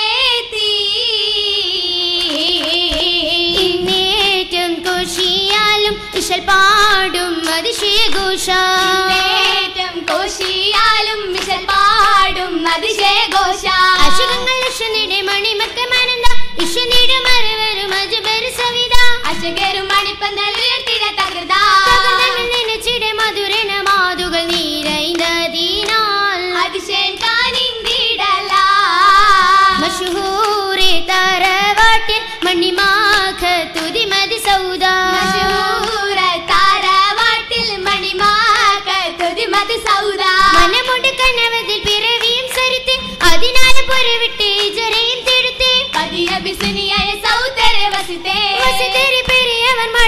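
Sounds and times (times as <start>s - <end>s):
girls singing: 0.0s - 50.0s
sharp hand-claps: 2.2s - 50.0s.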